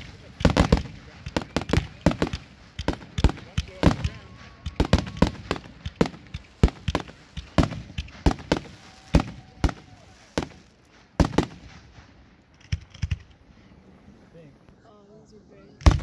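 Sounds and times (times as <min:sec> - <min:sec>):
fireworks bursting: 0:00.0 - 0:13.6, 0:15.8 - 0:16.0.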